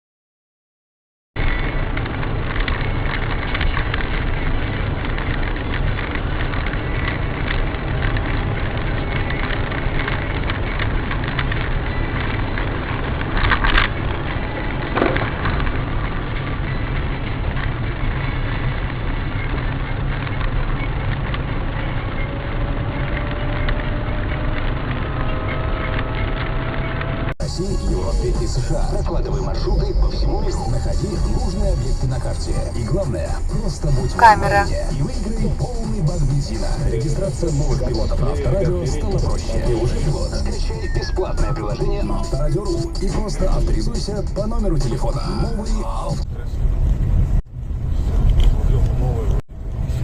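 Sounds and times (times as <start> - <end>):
car road and engine noise: 1.4 - 50.0.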